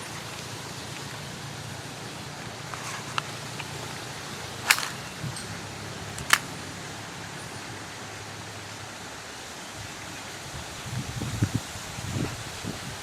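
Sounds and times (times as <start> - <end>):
wind in trees: 0.0 - 13.0.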